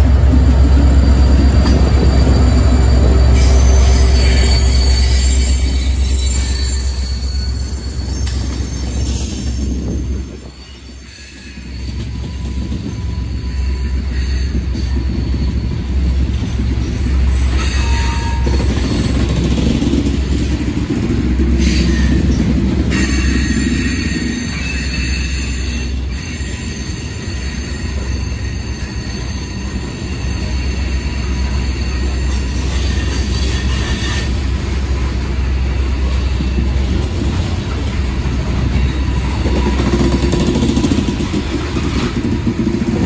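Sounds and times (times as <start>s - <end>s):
diesel locomotive engine rumble: 0.0s - 43.0s
wheel and rail rumble: 0.0s - 43.0s
high-pitched wheel squeal: 0.7s - 20.2s, 21.6s - 37.0s, 38.5s - 41.3s.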